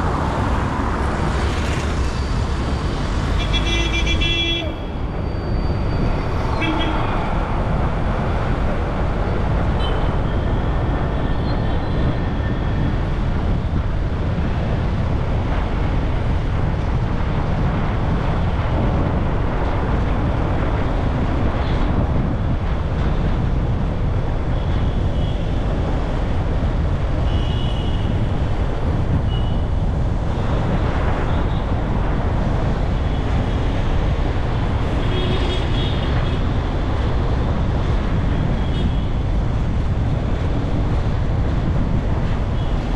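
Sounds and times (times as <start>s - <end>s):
road traffic rumble: 0.0s - 42.9s.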